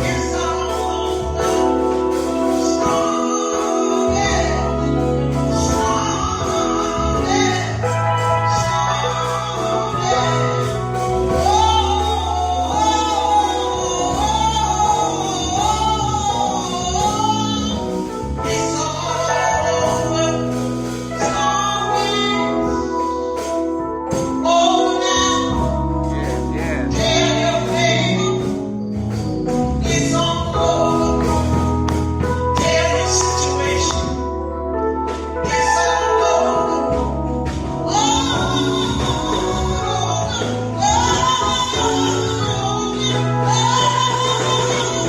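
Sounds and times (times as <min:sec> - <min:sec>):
band accompaniment: 0:00.0 - 0:45.0
woman singing gospel: 0:00.0 - 0:45.0.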